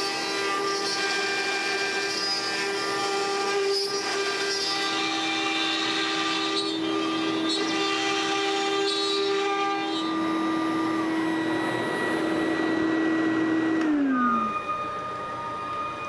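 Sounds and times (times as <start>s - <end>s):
router spindle high whine: 0.0s - 16.0s.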